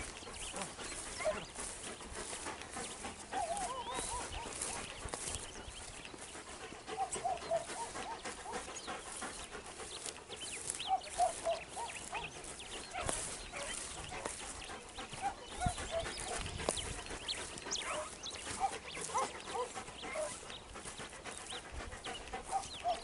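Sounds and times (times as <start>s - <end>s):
faint dogs yelping: 0.0s - 5.6s, 6.2s - 23.0s
small birds chirping: 0.0s - 23.0s.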